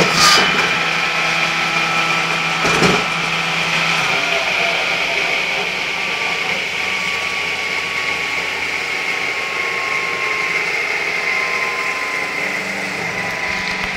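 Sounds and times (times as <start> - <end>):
circular saw running: 0.0 - 13.9.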